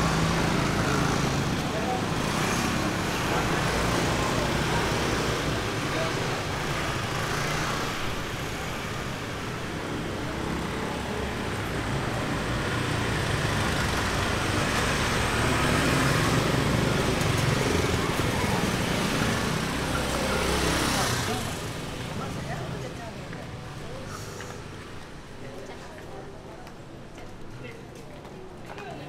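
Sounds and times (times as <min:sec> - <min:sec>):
motor scooters passing: 0:00.0 - 0:26.4.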